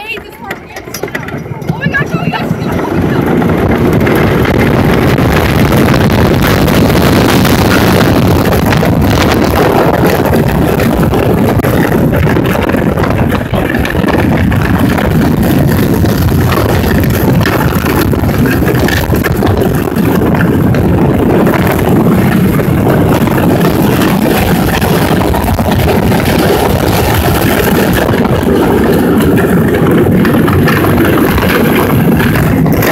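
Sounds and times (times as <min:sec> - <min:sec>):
roller coaster rumbling on track: 0:00.0 - 0:32.9
wind buffeting microphone: 0:00.0 - 0:32.9.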